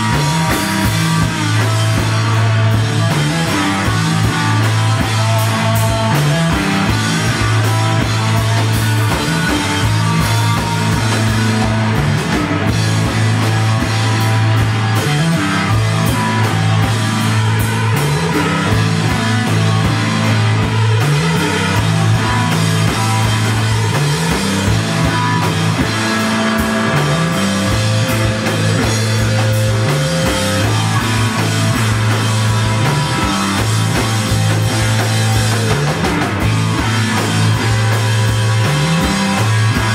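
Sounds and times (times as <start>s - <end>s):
bass riff: 0.0s - 39.9s
distorted electric guitar: 0.0s - 39.9s
drum kit: 0.0s - 39.9s.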